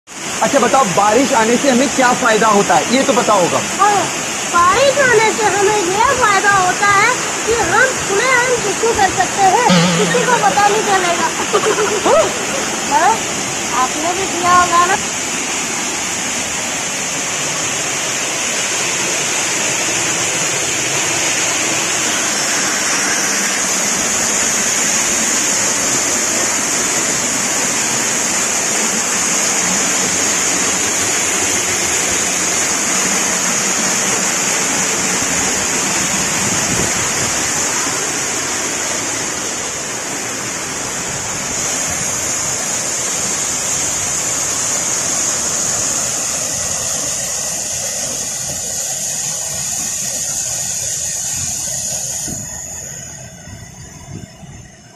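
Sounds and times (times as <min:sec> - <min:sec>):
waterfall rushing into pool: 0:00.1 - 0:54.9.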